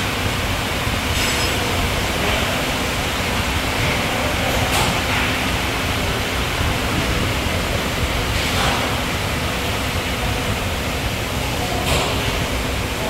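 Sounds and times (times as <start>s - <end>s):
workshop background rushing: 0.0s - 13.0s.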